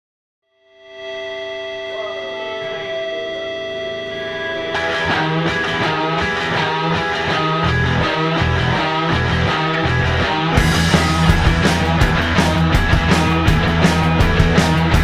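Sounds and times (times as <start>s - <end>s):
rock band with guitar: 0.8s - 15.0s.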